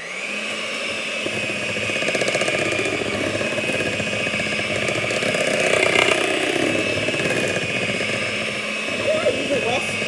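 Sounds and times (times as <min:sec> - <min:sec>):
electric mixer beating batter: 0:00.0 - 0:10.0.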